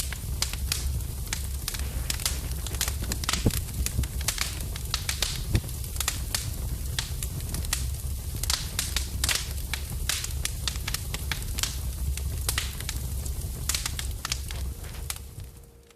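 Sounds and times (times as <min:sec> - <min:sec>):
fire crackling and popping: 0:00.0 - 0:15.9.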